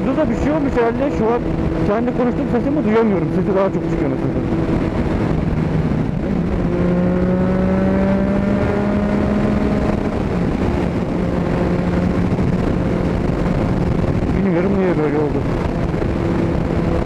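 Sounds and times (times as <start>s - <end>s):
motorcycle engine and exhaust: 0.0s - 17.0s.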